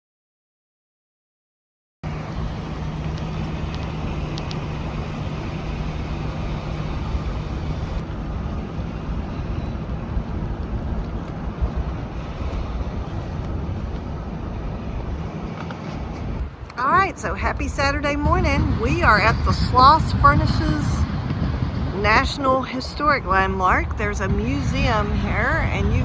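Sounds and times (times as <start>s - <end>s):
low engine hum: 2.0s - 26.0s
trains rumbling by: 2.0s - 26.0s.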